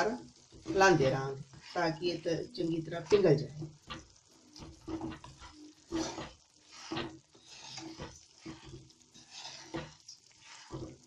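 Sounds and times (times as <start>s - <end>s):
spatula scraping a pan: 0.0s - 11.0s.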